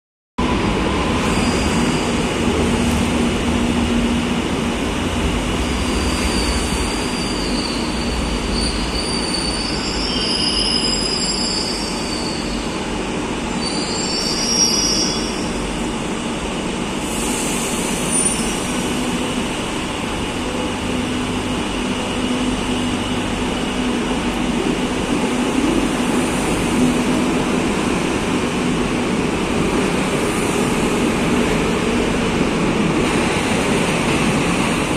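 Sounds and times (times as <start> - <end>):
electric train rumble and hum: 0.4 - 34.9.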